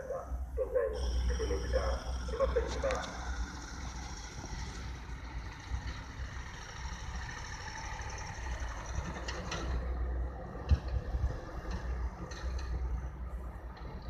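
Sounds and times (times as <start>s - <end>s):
traffic engine rumble: 0.0s - 14.0s.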